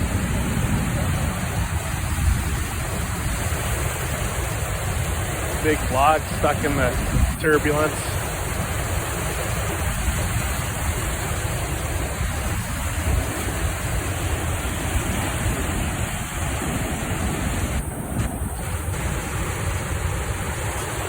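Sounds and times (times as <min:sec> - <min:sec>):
floodwater rushing through dam: 0:00.0 - 0:21.0.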